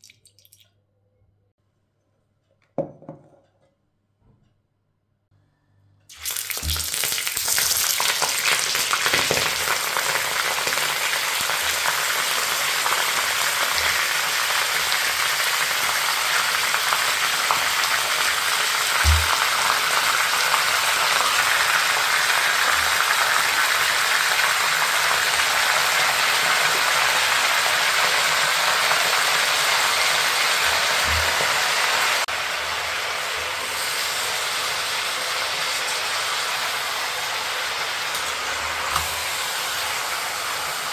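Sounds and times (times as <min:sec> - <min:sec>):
meat sizzling in hot oil: 0:06.1 - 0:40.9.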